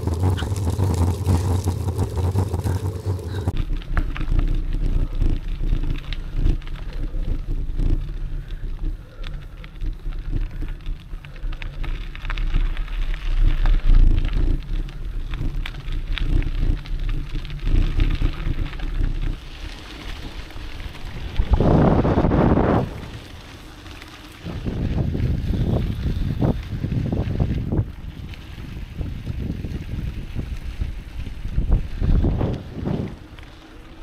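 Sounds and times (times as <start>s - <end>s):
bike tyres crunching on gravel: 0.0s - 34.0s
wind rumble on microphone: 0.0s - 34.0s.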